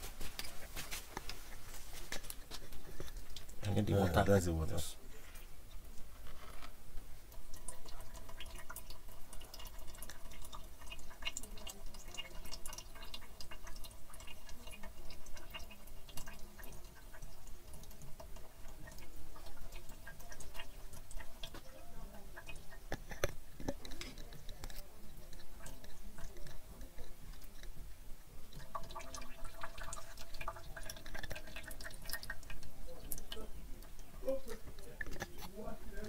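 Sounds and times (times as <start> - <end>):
fluid dripping: 0.2 - 36.0.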